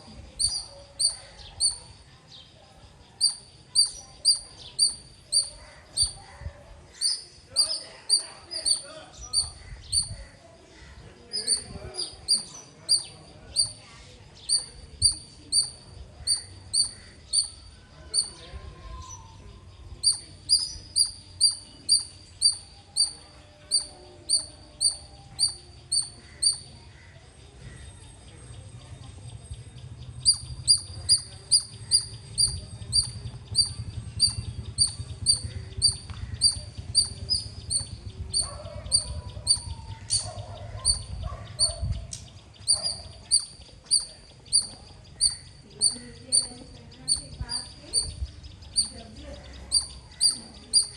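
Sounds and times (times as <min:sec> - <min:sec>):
squirrel chirping: 0:00.1 - 0:02.1, 0:02.9 - 0:10.4, 0:11.1 - 0:50.9
low background rumble: 0:02.9 - 0:50.9.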